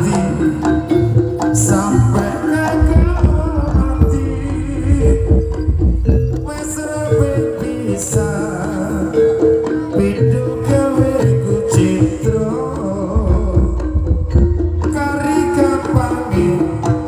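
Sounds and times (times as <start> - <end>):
gamelan melodic notes: 0.0 - 17.0
hand drumming: 0.0 - 17.0.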